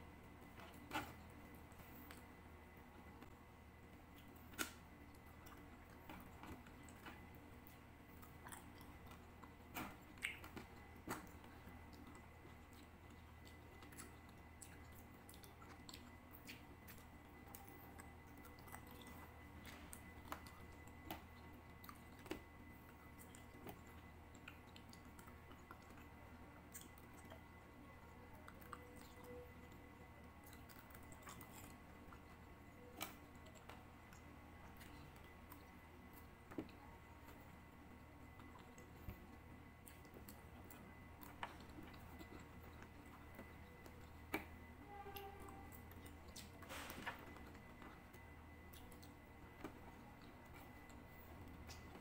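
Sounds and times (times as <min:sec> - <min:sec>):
low steady hum: 0:00.0 - 0:52.0
chewing grapes: 0:00.3 - 0:52.0.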